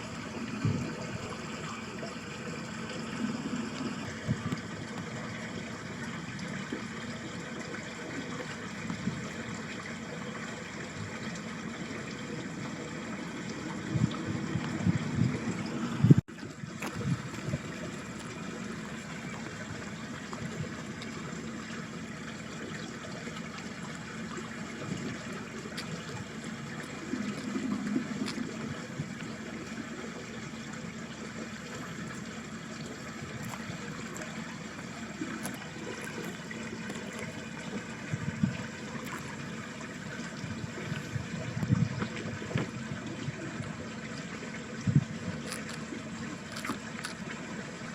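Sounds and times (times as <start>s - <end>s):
low water gurgle: 0.0s - 47.9s
stream trickling and babbling: 0.0s - 47.9s.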